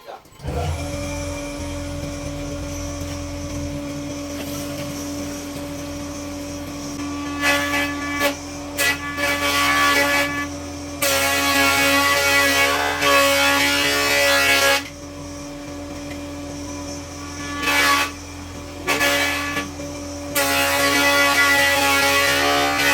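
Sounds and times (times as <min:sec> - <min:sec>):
electric power tool humming: 0:00.4 - 0:22.9
power tool cutting wood: 0:00.4 - 0:22.9.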